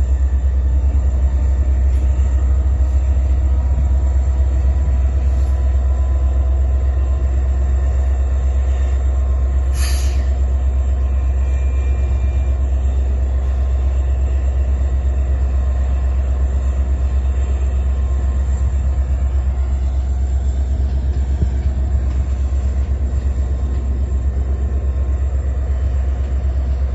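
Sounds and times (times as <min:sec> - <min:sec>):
train rumbling: 0:00.0 - 0:26.9.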